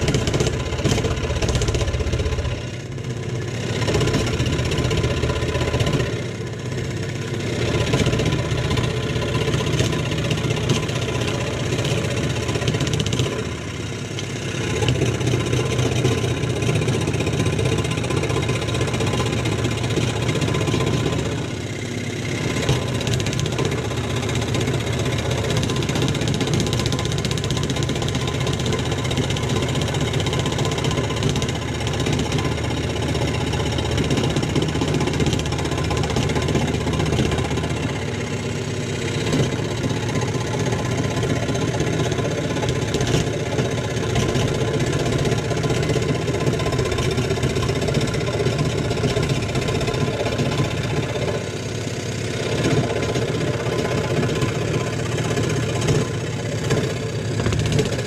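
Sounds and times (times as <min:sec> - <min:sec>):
electric saw cutting wood: 0:00.0 - 0:58.0.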